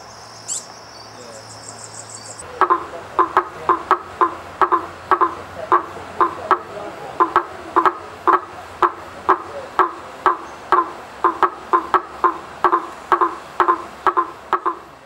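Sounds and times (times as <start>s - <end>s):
frog knocking calls: 2.0s - 15.0s.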